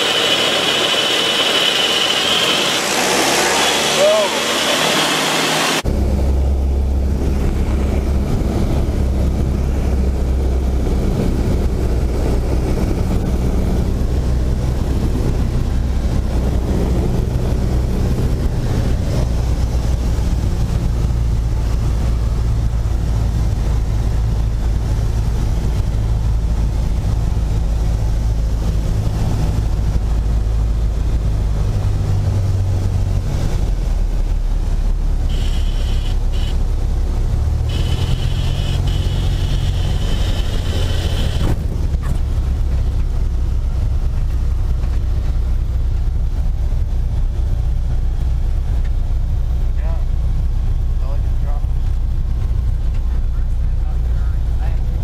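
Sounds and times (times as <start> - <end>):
propeller airplane engine droning: 0.0 - 55.0.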